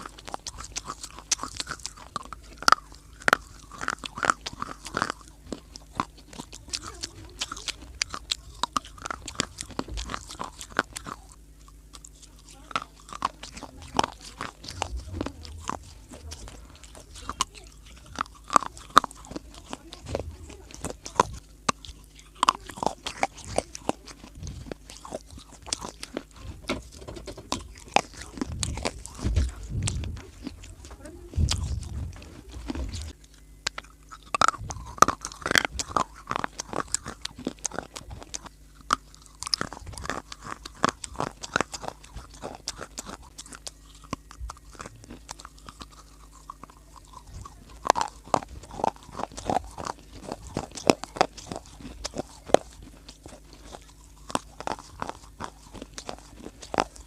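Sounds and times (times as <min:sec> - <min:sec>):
person crunching dry clay: 0:00.0 - 0:57.0.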